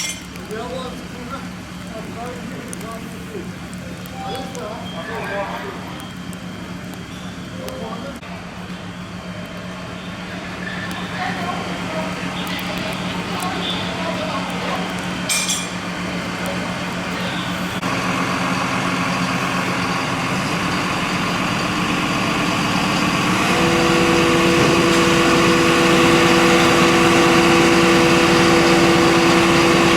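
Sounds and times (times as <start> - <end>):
heavy truck engine running: 0.0 - 29.9.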